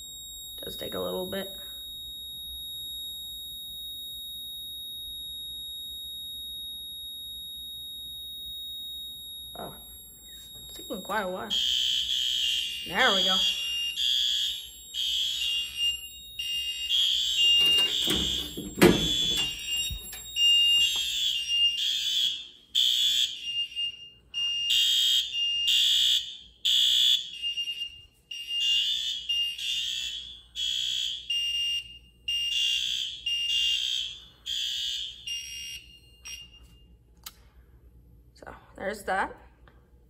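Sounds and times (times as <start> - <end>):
fire alarm horn blasts: 0.0 - 37.1.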